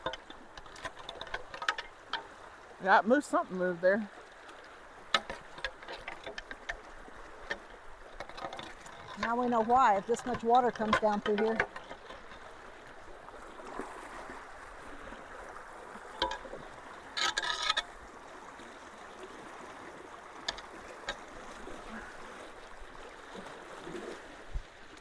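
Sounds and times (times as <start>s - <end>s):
water rushing through culvert: 0.0s - 25.0s.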